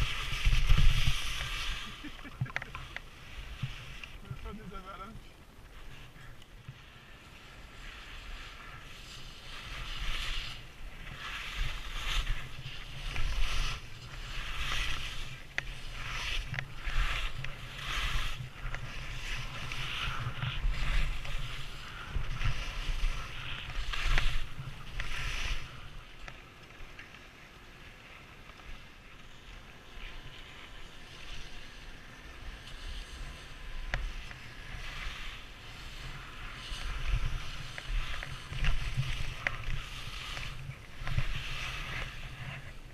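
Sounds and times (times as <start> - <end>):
wind rumbling on microphone: 0.0 - 27.0, 27.6 - 42.9
skis scraping on snow: 0.0 - 42.9.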